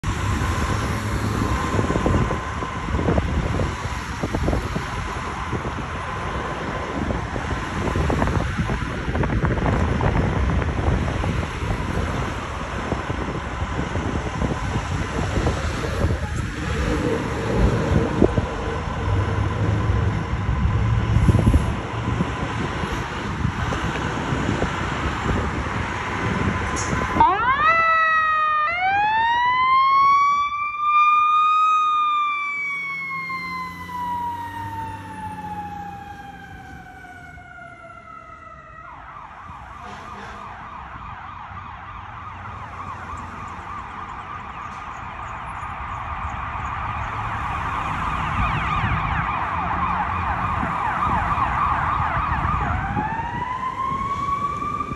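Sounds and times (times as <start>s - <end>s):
fire engine siren: 0.0s - 54.9s.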